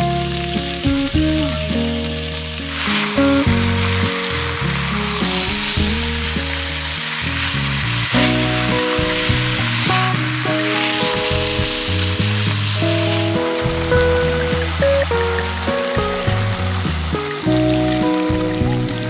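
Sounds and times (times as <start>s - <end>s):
background music of held chords: 0.0s - 19.0s
food sizzling in frying: 0.0s - 19.0s.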